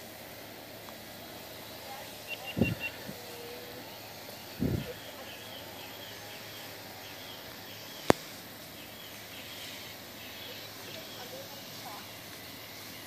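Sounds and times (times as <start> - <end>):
faint hiss: 0.0 - 13.0
faint repeating chirping: 1.2 - 13.0.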